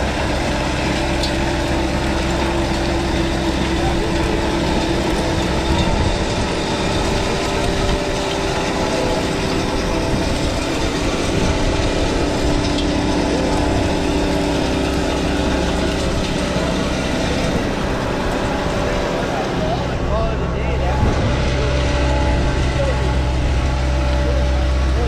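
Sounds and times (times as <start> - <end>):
diesel engine droning under load: 0.0 - 25.0
rake rotor churning soil: 0.0 - 25.0.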